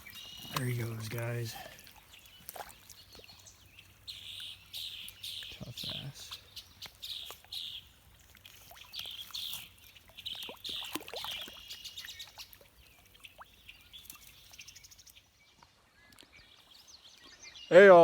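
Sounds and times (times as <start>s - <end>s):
bird chirping: 0.0s - 8.0s, 8.7s - 18.0s.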